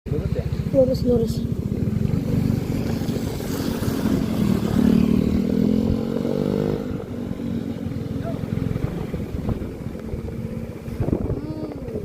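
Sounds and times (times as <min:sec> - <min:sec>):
vehicle engine revving: 0:00.7 - 0:12.0.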